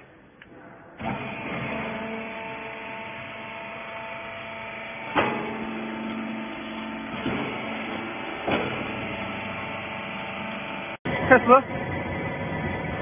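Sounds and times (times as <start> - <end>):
hydraulic power unit humming: 0.0 - 13.0.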